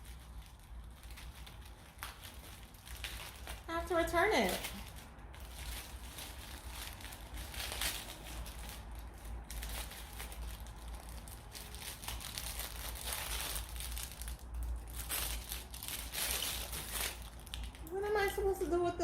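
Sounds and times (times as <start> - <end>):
packaging crinkling: 0.0 - 18.5.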